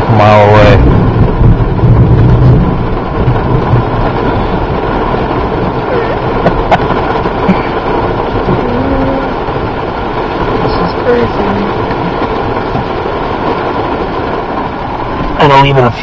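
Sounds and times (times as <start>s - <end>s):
wind and rain rushing: 0.0s - 16.0s.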